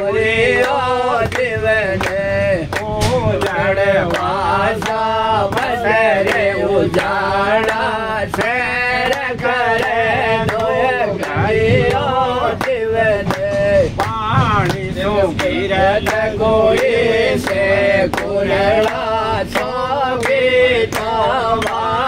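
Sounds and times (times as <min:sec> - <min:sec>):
man singing unaccompanied: 0:00.0 - 0:22.0
moving train rumble: 0:00.0 - 0:22.0.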